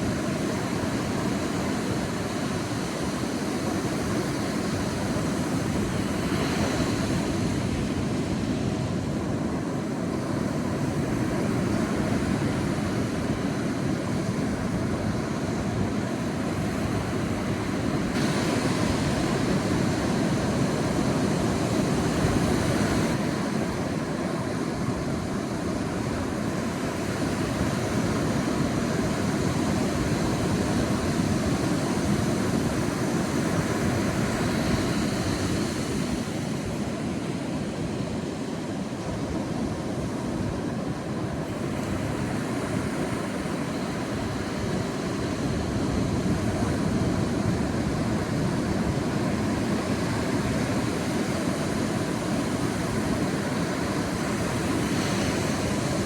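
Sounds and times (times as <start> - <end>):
surf washing onto beach: 0.0 - 56.0.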